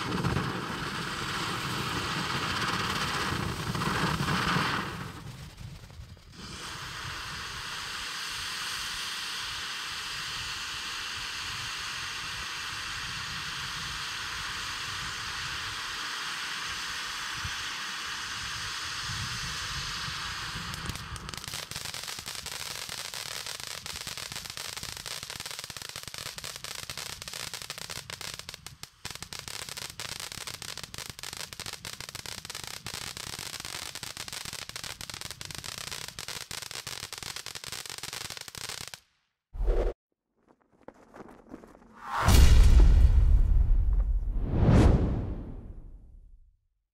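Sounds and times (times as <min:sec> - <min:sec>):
firework fountain hissing and crackling: 0:00.0 - 0:39.0.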